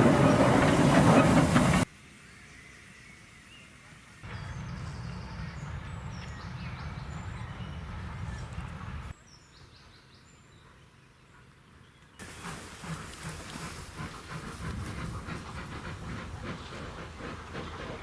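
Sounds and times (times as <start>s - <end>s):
countryside ambience: 0.0s - 18.0s.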